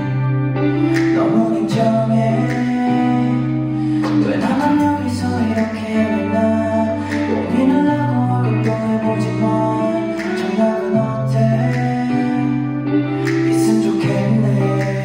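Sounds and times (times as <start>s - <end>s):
instrumental backing with guitar: 0.0s - 15.0s
man singing live: 0.0s - 15.0s.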